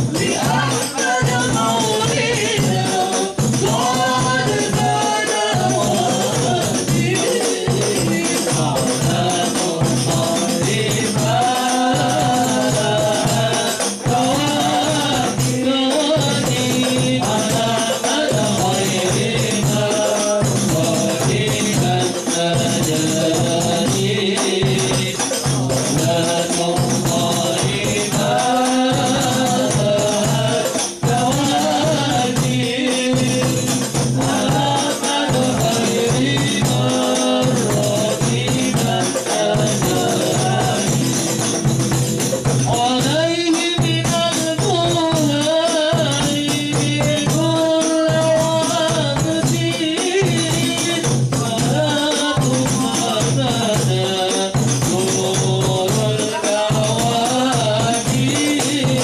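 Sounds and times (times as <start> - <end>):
bass drum: 0.0 - 59.0
frame drums: 0.0 - 59.0
men singing together: 0.0 - 59.0.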